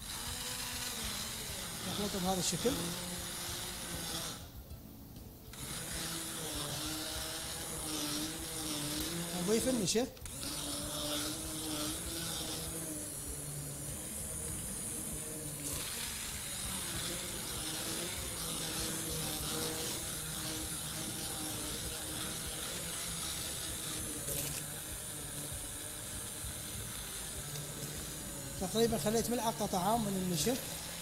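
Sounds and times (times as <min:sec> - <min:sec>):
hand blender whirring in liquid: 0:00.0 - 0:04.8, 0:05.5 - 0:31.0.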